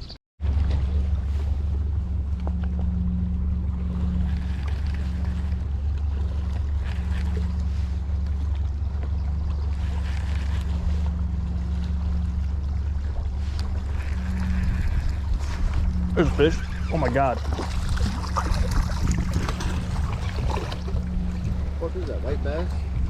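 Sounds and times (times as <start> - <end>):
boat motor humming: 0.0 - 23.0
wind on microphone: 1.0 - 23.0.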